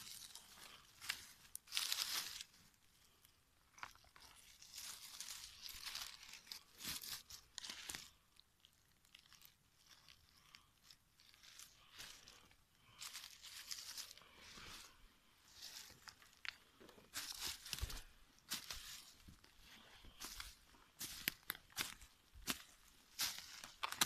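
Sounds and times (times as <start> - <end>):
dry leaves and twigs rustling: 0.0 - 24.0.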